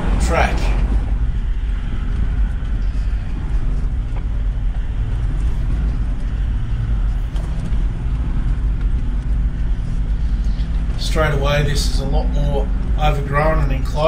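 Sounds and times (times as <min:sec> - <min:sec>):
engine and drivetrain drone: 0:00.0 - 0:14.0
road noise: 0:00.0 - 0:14.0.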